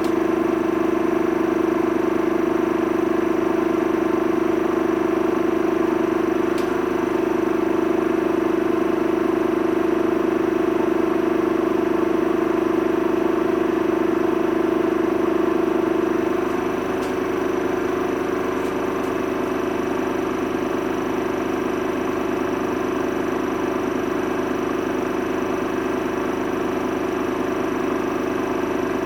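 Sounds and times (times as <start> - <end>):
washing machine motor whining: 0.0 - 29.0.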